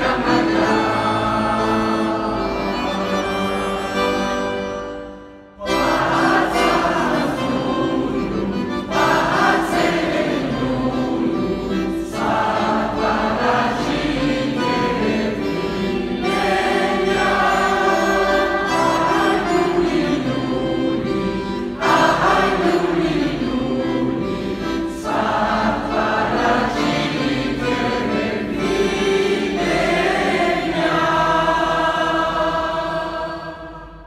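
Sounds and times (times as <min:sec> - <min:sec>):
mixed choir singing: 0:00.0 - 0:04.8, 0:05.6 - 0:34.0.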